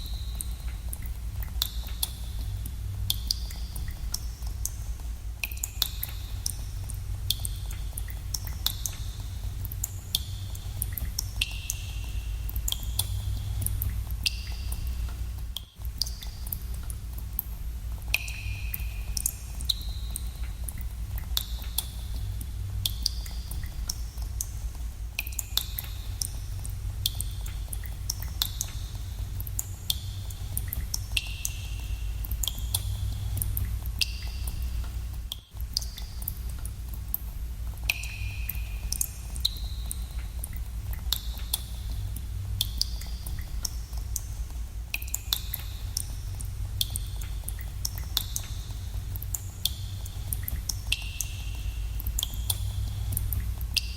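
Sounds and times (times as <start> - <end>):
steady low rumble: 0.0 - 53.9
water drops echoing in cave: 0.0 - 53.9.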